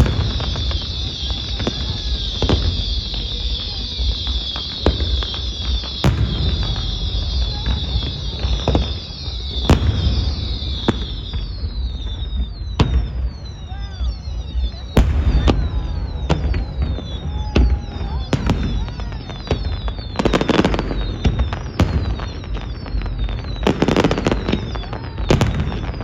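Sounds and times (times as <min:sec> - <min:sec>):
fireworks bangs: 0:00.0 - 0:26.0
fireworks crackling hiss: 0:00.0 - 0:26.0
short falling whistles: 0:00.0 - 0:26.0.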